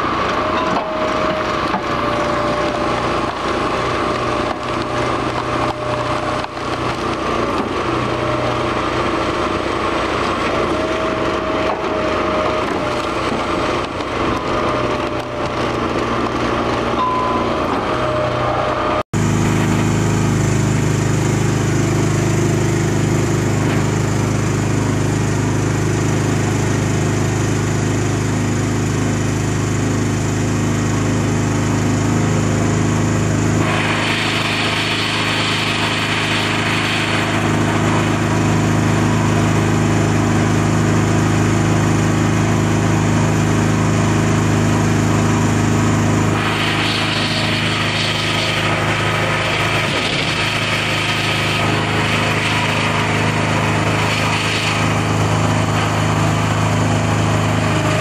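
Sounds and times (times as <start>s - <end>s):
machine engine hum: 0.0s - 58.0s.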